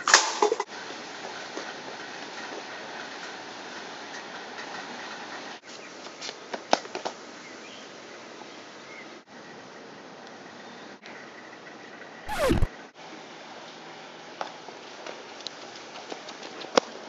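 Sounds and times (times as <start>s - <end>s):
outdoor background hiss: 0.0s - 16.3s.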